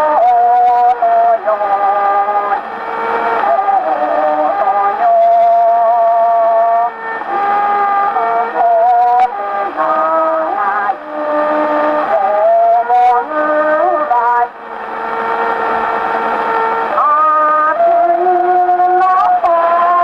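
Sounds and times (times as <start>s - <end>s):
man singing on gramophone: 0.0s - 2.6s, 3.4s - 14.5s, 16.9s - 20.0s
record surface hiss: 0.0s - 20.0s.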